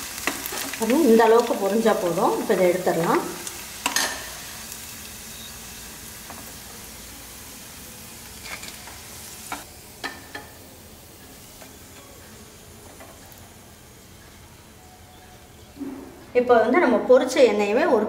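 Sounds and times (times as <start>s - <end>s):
hot oil sizzling: 0.0s - 15.8s.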